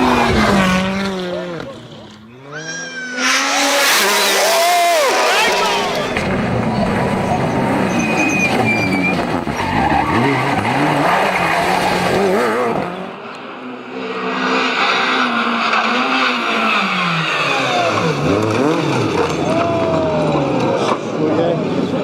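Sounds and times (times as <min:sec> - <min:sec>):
rally car engine revving: 0:00.0 - 0:22.0
tyres skidding: 0:00.0 - 0:22.0.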